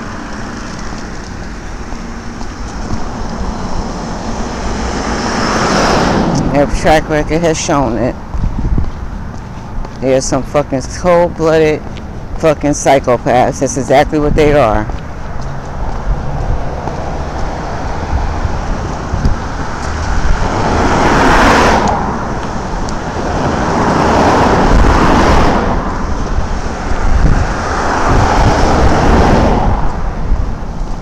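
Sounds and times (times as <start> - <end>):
cars passing: 0.0 - 31.0
steady low traffic rumble: 0.0 - 31.0.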